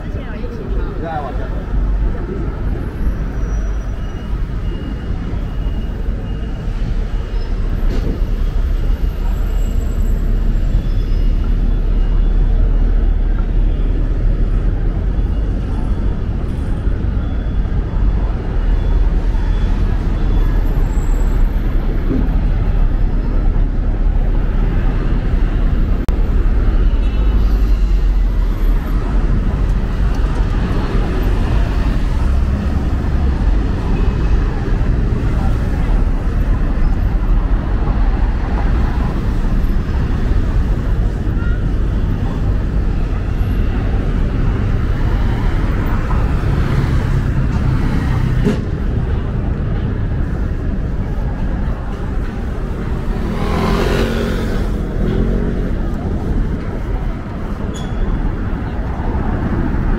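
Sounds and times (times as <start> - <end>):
cars passing: 0.0 - 59.9
traffic rumble: 0.0 - 59.9
wind: 0.0 - 59.9.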